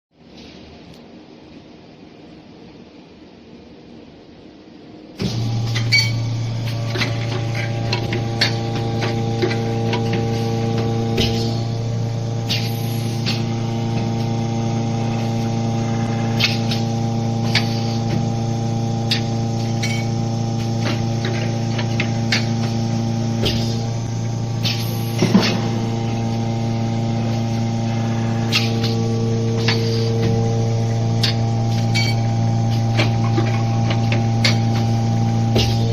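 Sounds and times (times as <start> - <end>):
machine motor hum with tones: 5.2 - 35.9.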